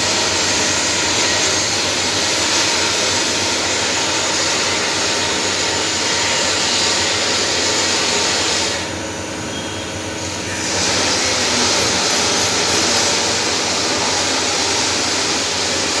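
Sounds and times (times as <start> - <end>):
cnc machine cutting metal: 0.0 - 16.0.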